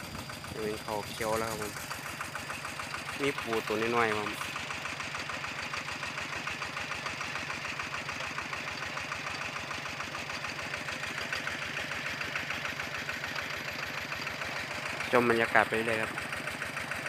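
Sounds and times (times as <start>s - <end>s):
water pump engine chugging: 0.0s - 17.0s.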